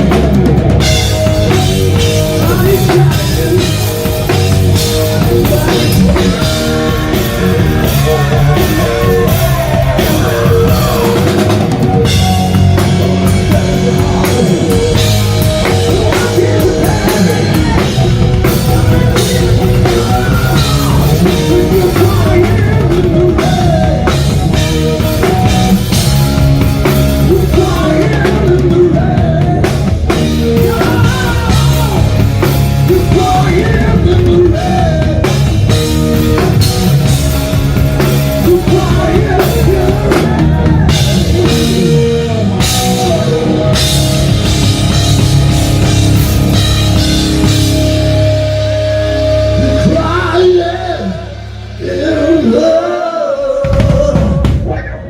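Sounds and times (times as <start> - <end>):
electric guitar melody: 0.0 - 51.8
hard rock band playing: 0.0 - 55.0.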